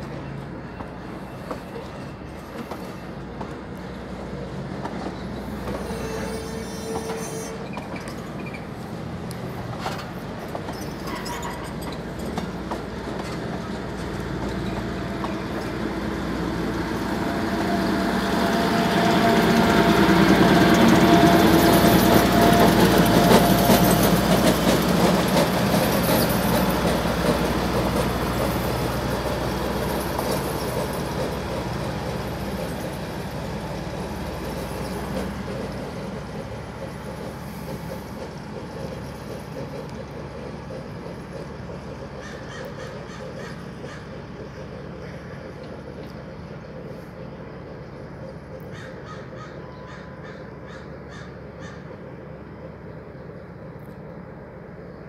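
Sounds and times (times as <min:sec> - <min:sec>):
diesel locomotive engine: 0:00.0 - 0:55.0
train cars rumbling past: 0:00.0 - 0:55.0.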